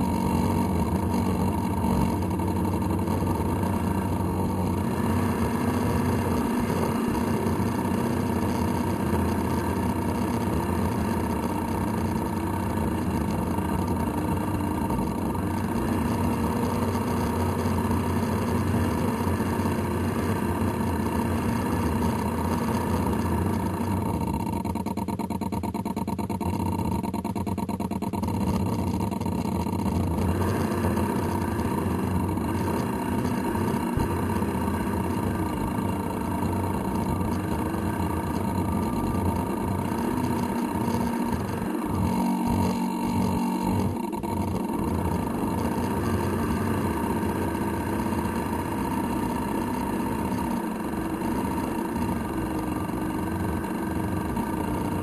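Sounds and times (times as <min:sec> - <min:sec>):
model boat motor humming: 0:00.0 - 0:55.0.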